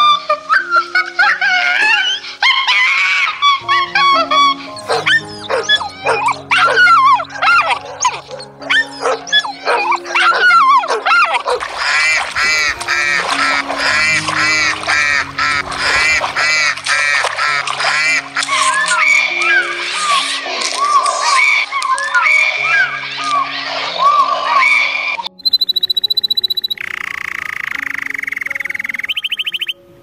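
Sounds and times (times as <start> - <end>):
dogs barking and yelping: 0.0 - 25.4
background music with held notes: 0.0 - 30.0.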